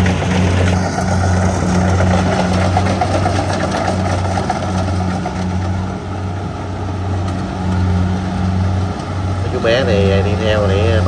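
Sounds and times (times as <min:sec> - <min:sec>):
combine harvester engine hum: 0:00.0 - 0:11.0
machinery noise: 0:00.0 - 0:11.0.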